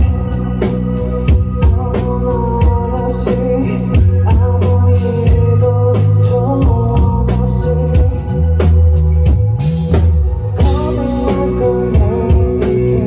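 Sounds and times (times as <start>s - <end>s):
drum kit beat: 0.0s - 13.0s
live rock band playing: 0.0s - 13.0s.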